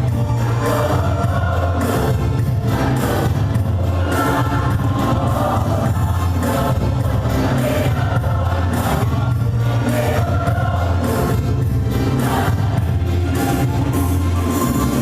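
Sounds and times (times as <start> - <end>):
choir singing sustained chords: 0.0 - 15.0
steady low bass: 0.0 - 15.0.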